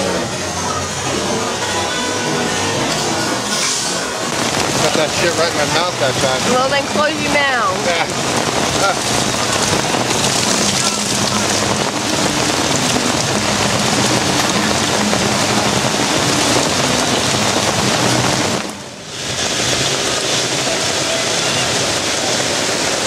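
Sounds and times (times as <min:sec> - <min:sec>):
heavy rain pelting a canopy: 0:00.0 - 0:23.0.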